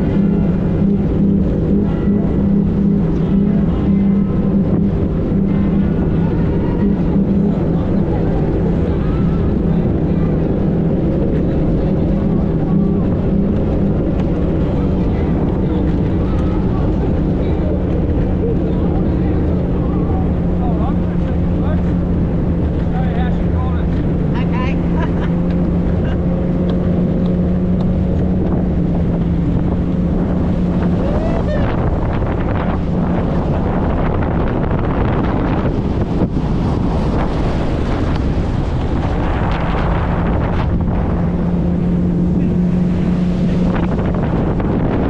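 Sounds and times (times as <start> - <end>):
outboard engine running: 0.0 - 45.0
water noise: 0.0 - 45.0
wind: 0.0 - 45.0.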